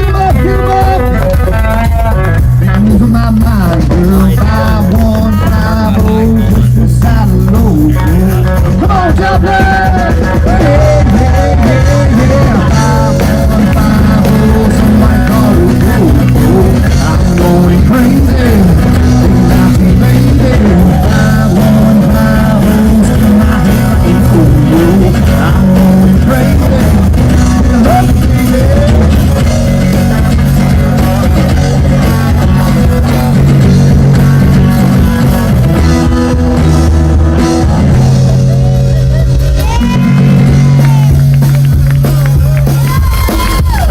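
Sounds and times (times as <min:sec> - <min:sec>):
bass guitar: 0:00.0 - 0:43.9
drums: 0:00.0 - 0:43.9
electric guitar: 0:00.0 - 0:43.9.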